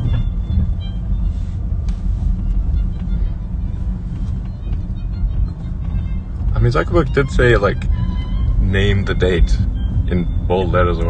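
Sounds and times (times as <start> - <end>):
faint music: 0.0 - 11.0
road and tyre rumble: 0.0 - 11.0.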